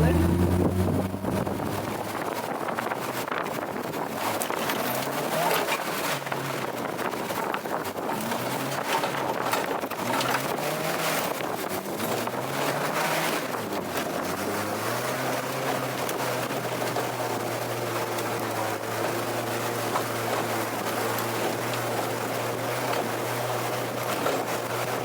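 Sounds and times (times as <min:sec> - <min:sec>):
car engine revving: 0:00.0 - 0:25.0
constant rushing noise: 0:00.0 - 0:25.0.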